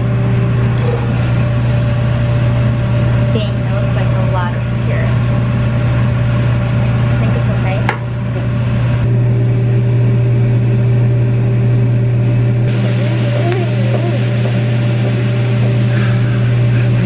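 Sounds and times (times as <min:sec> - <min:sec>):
exhaust hood fan humming: 0:00.0 - 0:17.0.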